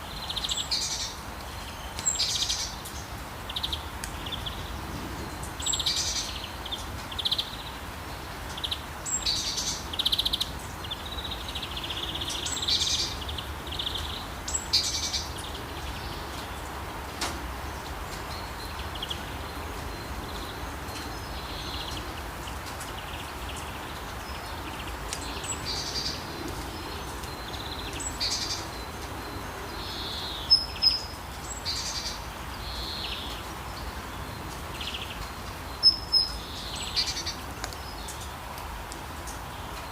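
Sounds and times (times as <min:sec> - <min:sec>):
gentle rain hiss: 0:00.0 - 0:39.9
songbirds chirping: 0:00.0 - 0:39.9.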